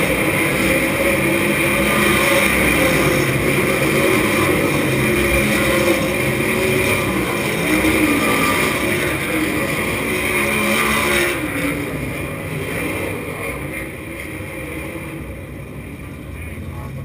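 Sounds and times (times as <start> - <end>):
race car engine running: 0.0 - 17.0.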